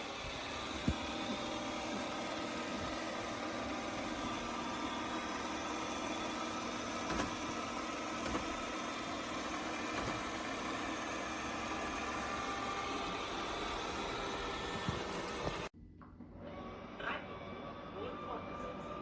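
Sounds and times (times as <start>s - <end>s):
robot vacuum motor hum: 0.0s - 15.7s.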